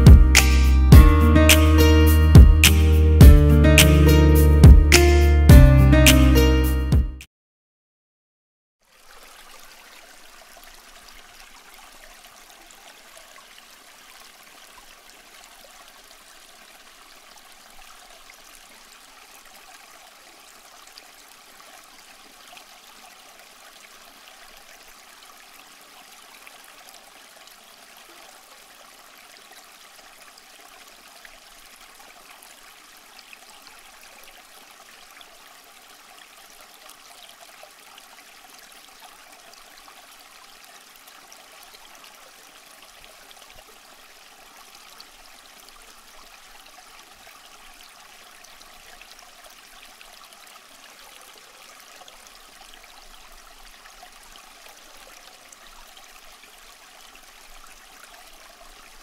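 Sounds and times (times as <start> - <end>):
water trickling in fountain: 8.8 - 59.0.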